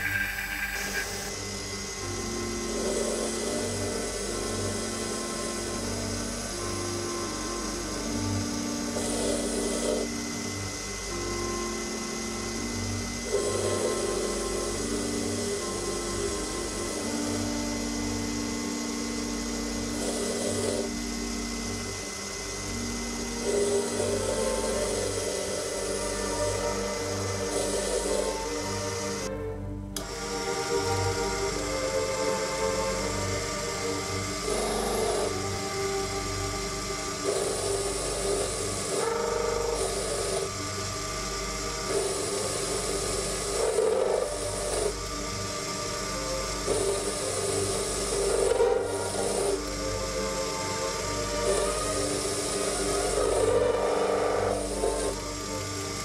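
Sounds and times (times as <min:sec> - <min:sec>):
lathe cutting steel: 0:00.0 - 0:29.3, 0:30.0 - 0:56.0.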